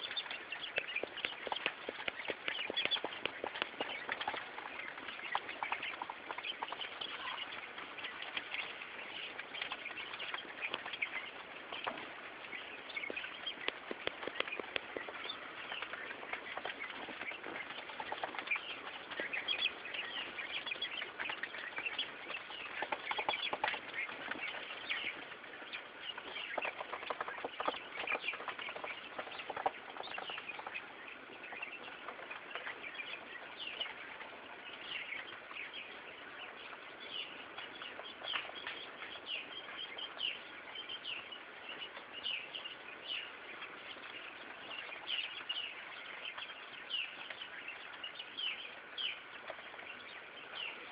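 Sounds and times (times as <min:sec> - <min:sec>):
quail rustling in sand: 0:00.0 - 0:50.9.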